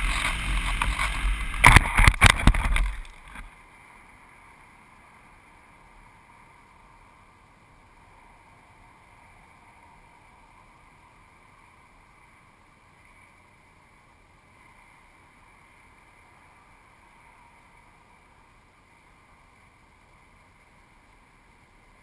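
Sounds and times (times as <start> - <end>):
faint wind hiss on microphone: 0.0 - 22.0.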